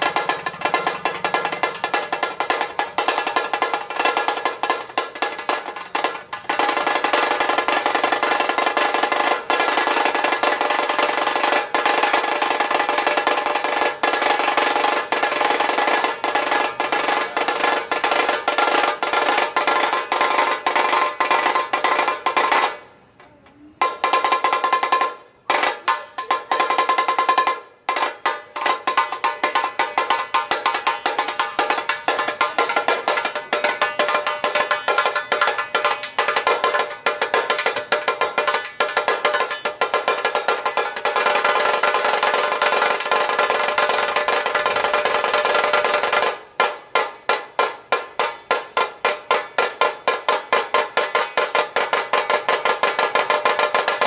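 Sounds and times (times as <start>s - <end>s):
fast drum roll: 0.0s - 22.9s, 23.8s - 54.0s.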